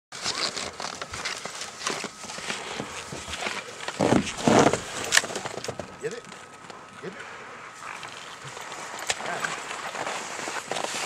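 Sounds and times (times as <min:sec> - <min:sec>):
footsteps crunching through snow: 0:00.2 - 0:06.2, 0:07.6 - 0:11.0.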